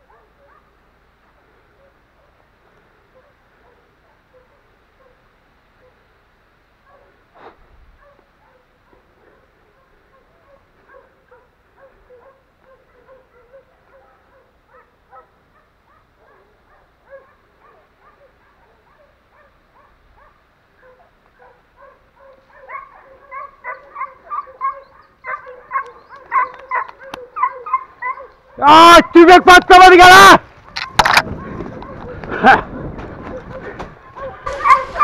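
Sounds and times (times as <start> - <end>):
dogs barking and baying: 0.0 - 6.1, 6.8 - 28.7, 30.5 - 35.0.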